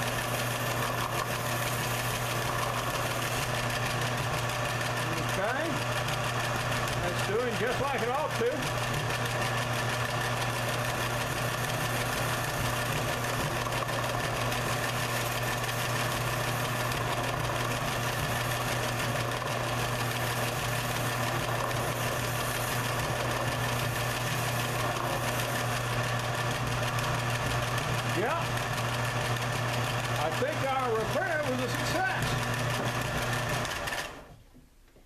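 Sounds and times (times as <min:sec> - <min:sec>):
belt sander rasping on wood: 0:00.0 - 0:34.3
belt sander motor hum: 0:00.0 - 0:34.4.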